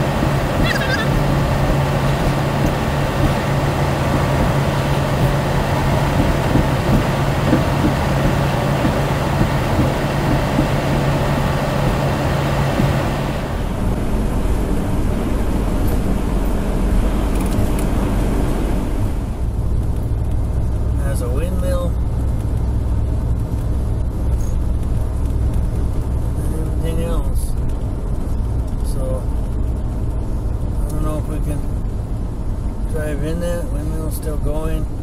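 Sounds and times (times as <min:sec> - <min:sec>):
constant hum: 0:00.0 - 0:35.0
engine and road noise: 0:00.0 - 0:35.0
low rumble: 0:00.0 - 0:35.0.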